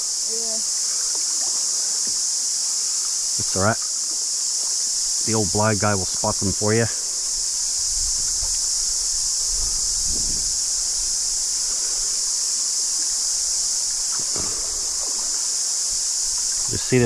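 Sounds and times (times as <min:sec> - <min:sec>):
cicadas chorusing: 0:00.0 - 0:17.0.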